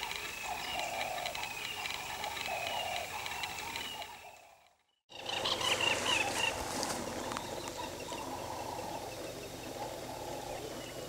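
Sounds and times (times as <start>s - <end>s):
background din of wildlife: 0.0s - 11.0s
birds chirping: 0.0s - 11.0s.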